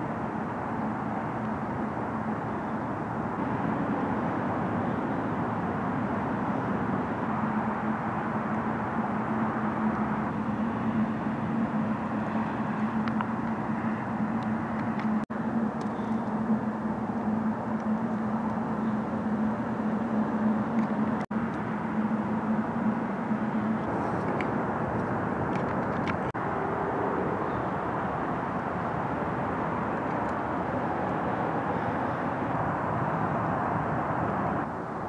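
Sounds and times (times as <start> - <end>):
distant traffic rumble: 0.0 - 35.0
low hum: 0.0 - 35.0.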